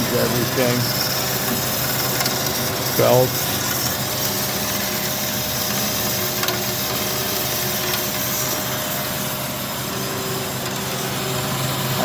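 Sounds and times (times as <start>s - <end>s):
bandsaw running with mechanical hum: 0.0s - 12.0s.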